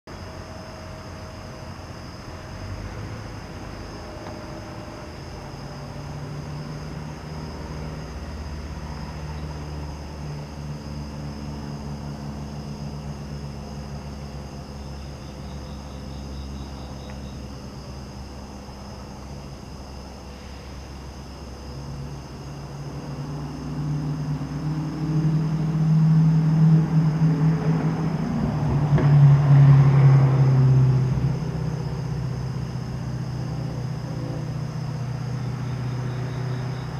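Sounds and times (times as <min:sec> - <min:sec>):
propeller plane flying overhead: 0:00.2 - 0:36.9.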